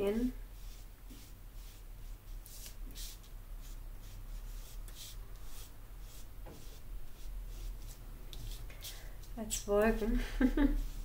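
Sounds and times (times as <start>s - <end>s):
low steady hum: 0.0s - 11.0s
ink pad rubbed on paper: 0.2s - 8.6s, 10.6s - 11.0s.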